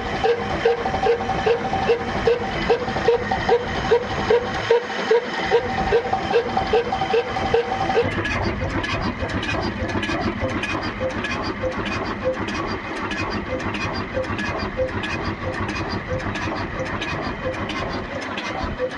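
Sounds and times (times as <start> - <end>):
diesel engine chugging: 0.0 - 18.9.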